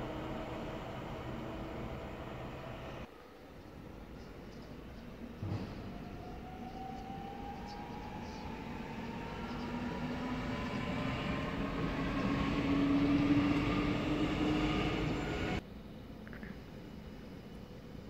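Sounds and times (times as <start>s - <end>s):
train wheels rumbling: 0.0s - 3.1s, 3.7s - 15.6s.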